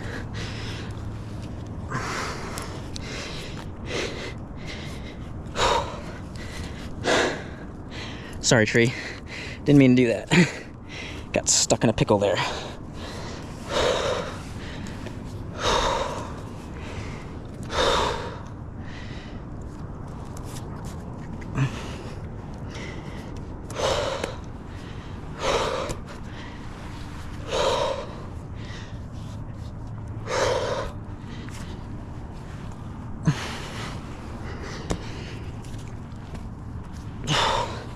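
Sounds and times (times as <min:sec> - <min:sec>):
man gasping heavy breaths: 0:00.0 - 0:11.4, 0:12.3 - 0:20.0, 0:21.4 - 0:36.3, 0:37.0 - 0:37.9.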